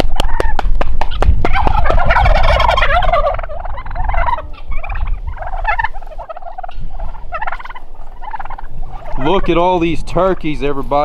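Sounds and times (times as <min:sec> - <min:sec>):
turkeys gobbling: 0:00.0 - 0:11.0.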